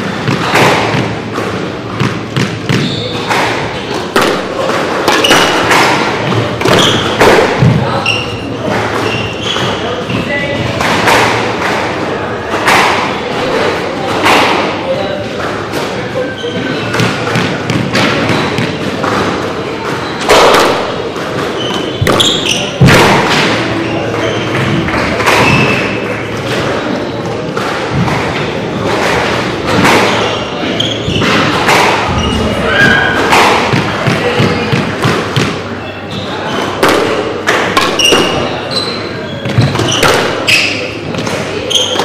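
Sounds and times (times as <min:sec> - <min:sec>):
murmur of hall: 0:00.0 - 0:42.0
squash balls hitting rackets and walls: 0:00.0 - 0:42.0.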